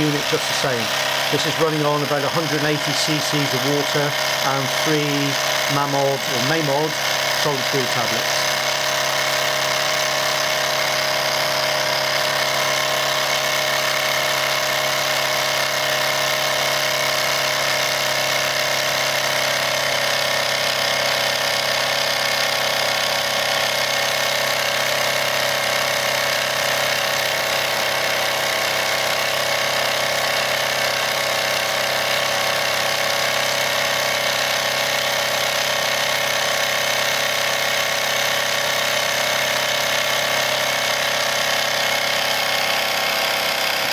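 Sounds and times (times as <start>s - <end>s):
toy steam engine whirring: 0.0s - 43.9s.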